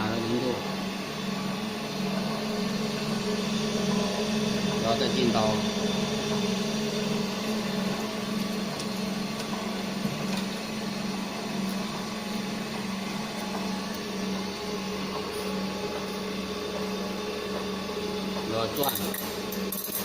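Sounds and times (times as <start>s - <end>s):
grinder motor humming: 0.0s - 20.0s.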